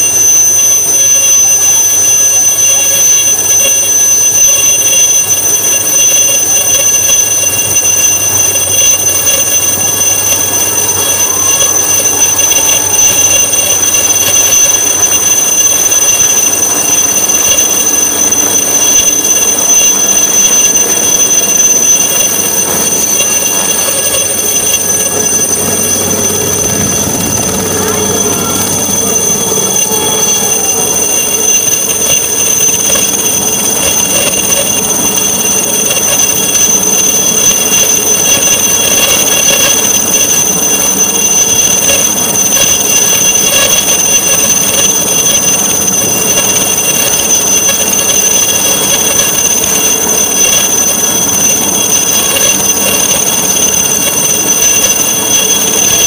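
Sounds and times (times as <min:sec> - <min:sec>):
helicopter rotor turning: 0:00.0 - 0:56.0
helicopter turbine whine: 0:00.0 - 0:56.0.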